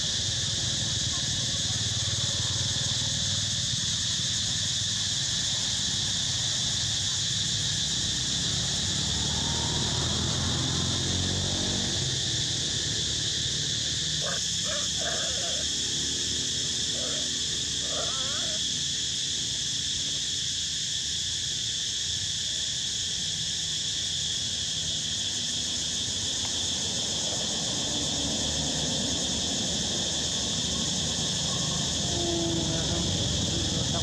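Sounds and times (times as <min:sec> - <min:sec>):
insect chorus: 0:00.0 - 0:34.0.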